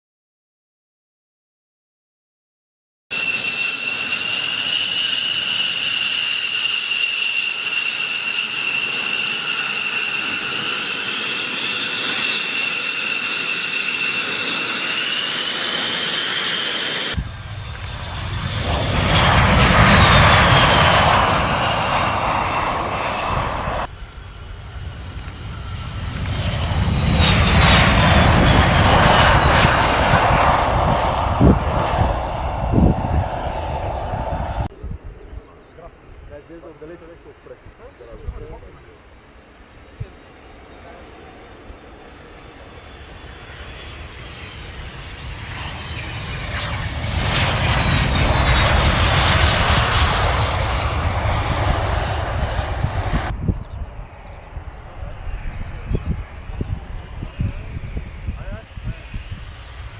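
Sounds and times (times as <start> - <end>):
jet engine whine: 3.1 - 59.9
jets passing overhead: 3.1 - 59.9.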